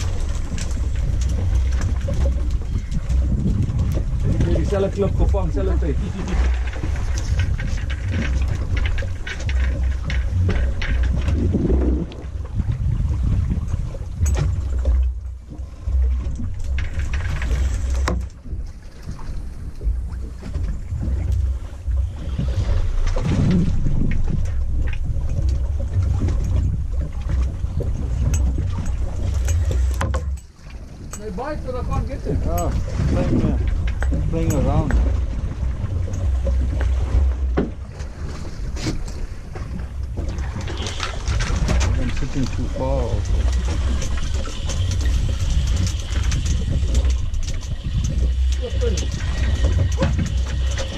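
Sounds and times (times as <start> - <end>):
boat engine low drone: 0.0 - 50.9
wind rumbling on microphone: 0.0 - 50.9.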